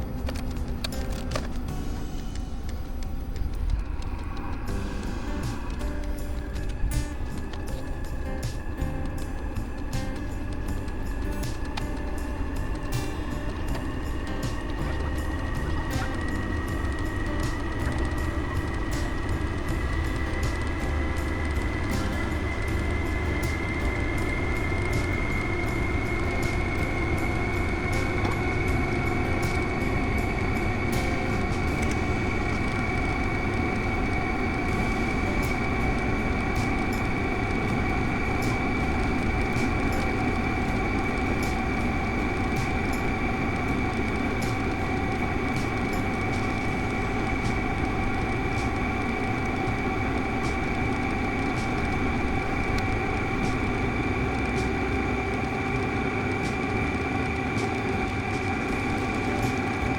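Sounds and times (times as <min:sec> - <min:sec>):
heater rumbling with fan whine: 0:00.0 - 0:59.9.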